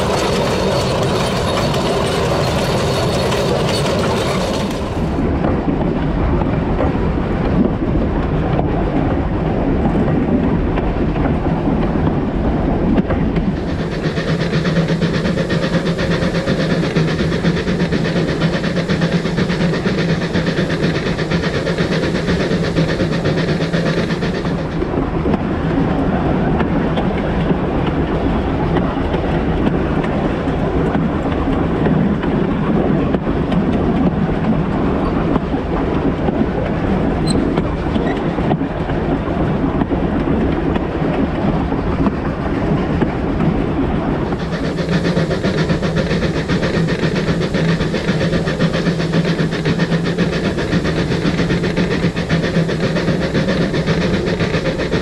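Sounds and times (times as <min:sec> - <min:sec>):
steam train wheels clattering: 0:00.0 - 0:55.0.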